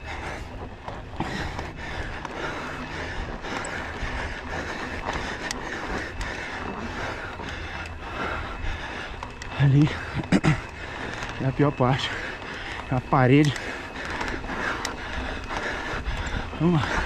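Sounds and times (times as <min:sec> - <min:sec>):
bicycle tyres on dry dirt: 0:00.0 - 0:17.0
bike clicks and rattles: 0:00.0 - 0:17.0
wind noise on microphone: 0:00.0 - 0:17.0.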